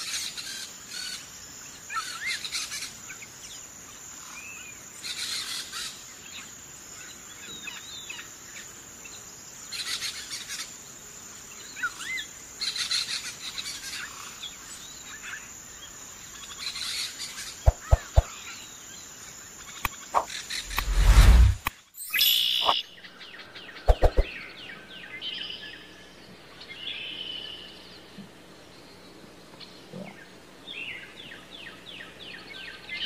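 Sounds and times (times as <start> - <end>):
steady high-pitched hiss: 0.0 - 33.0
small birds chirping: 0.2 - 33.0.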